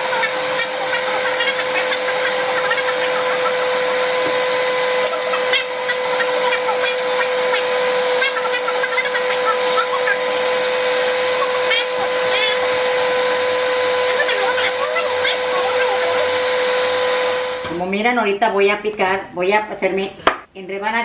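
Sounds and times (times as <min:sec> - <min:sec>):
blender motor running: 0:00.0 - 0:17.9.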